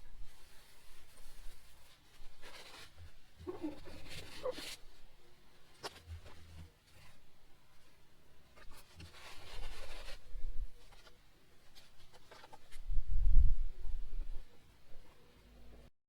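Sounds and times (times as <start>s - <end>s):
scratching and rubbing on plastic: 0.0s - 13.1s.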